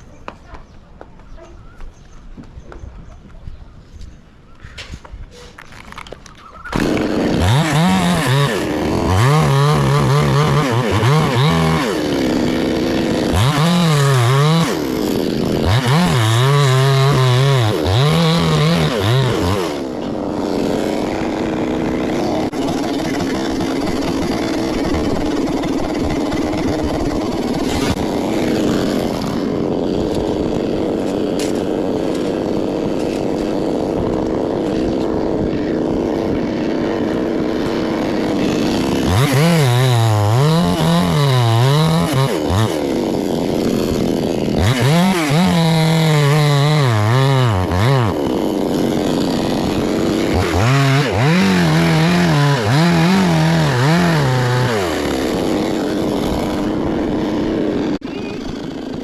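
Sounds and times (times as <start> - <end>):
chainsaw engine revving: 6.7 - 59.0.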